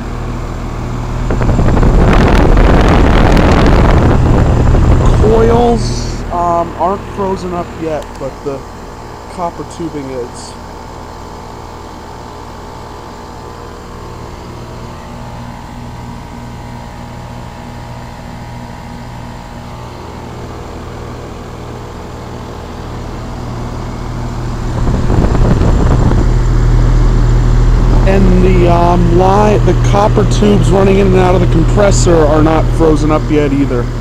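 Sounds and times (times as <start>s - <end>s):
heat pump humming: 0.0s - 34.0s.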